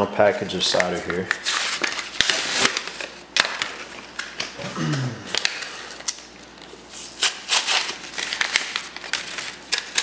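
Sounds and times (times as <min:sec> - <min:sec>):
plastic package crinkling: 0:00.5 - 0:04.7, 0:05.3 - 0:10.0.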